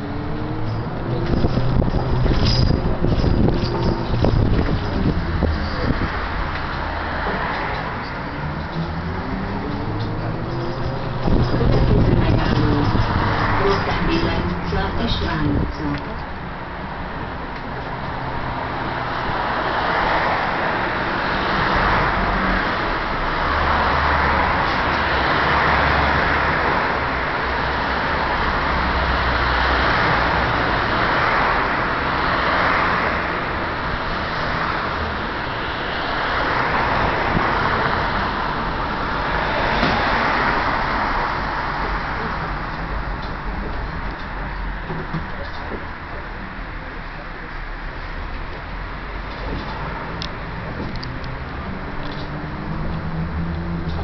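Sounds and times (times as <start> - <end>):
bus ride low rumble: 0.0 - 54.0.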